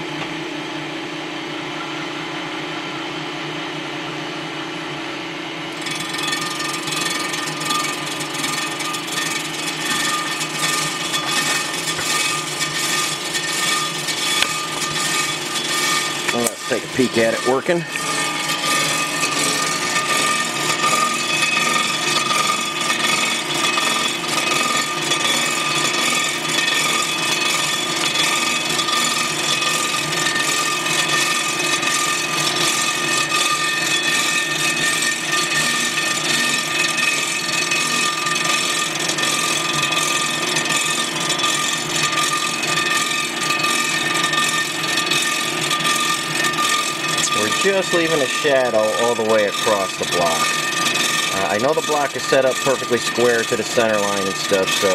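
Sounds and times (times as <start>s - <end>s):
machine milling metal with whine: 5.6s - 54.9s.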